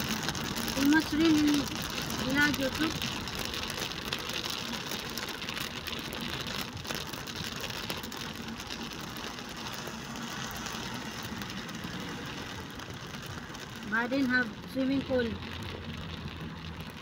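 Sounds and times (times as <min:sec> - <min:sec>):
rain ticking on car roof: 0:00.0 - 0:17.0
tyres hissing on wet road: 0:00.0 - 0:17.0.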